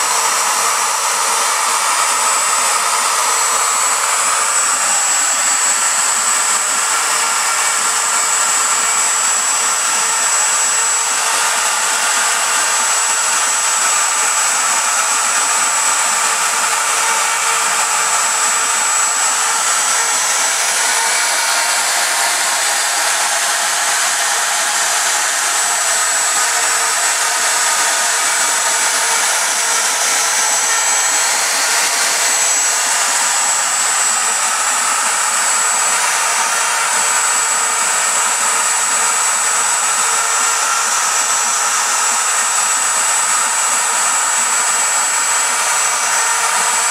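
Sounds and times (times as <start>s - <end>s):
router spindle high whine: 0.0s - 46.9s.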